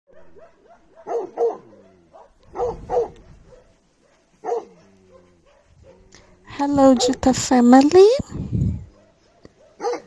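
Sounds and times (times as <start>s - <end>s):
dog barking: 0.1s - 7.3s, 8.9s - 10.0s.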